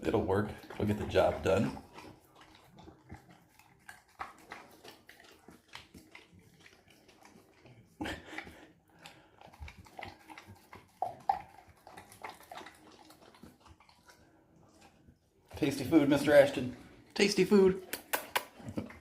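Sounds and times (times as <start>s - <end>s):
puppy chewing and smacking: 0.0s - 19.0s.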